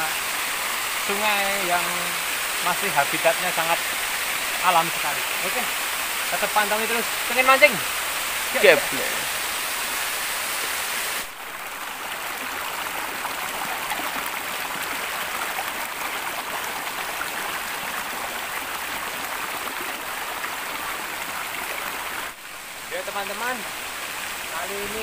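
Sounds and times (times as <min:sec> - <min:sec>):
stream babbling over stones: 0:00.0 - 0:25.0.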